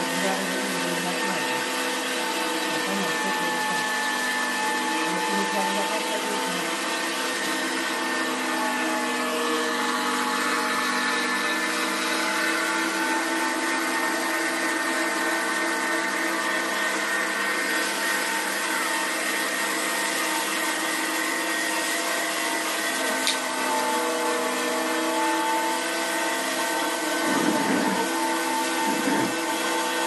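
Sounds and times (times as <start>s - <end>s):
electric motor humming: 0.0s - 30.0s.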